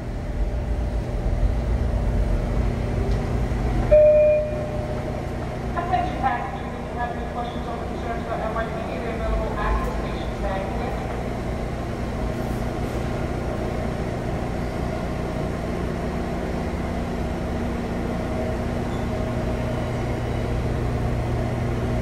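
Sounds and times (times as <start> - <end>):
subway train humming: 0.0 - 22.0.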